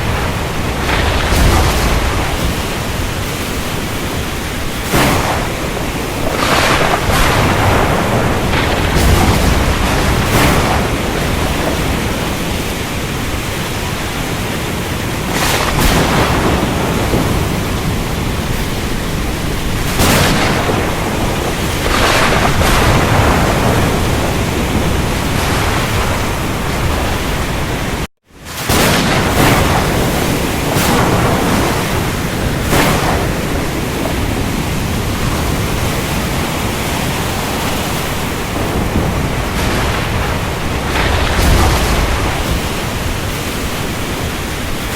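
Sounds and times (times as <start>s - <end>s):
heavy rain: 0.0s - 44.9s
thunder surges: 0.0s - 44.9s.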